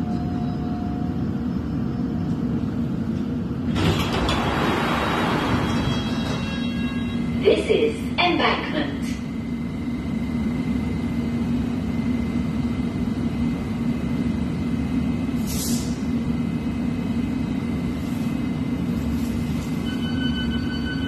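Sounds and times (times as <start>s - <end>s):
train equipment rumble and hum: 0.0s - 21.0s.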